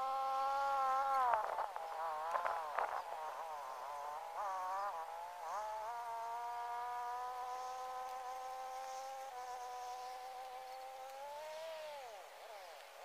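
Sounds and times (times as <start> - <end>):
insect buzzing: 0.0 - 13.0.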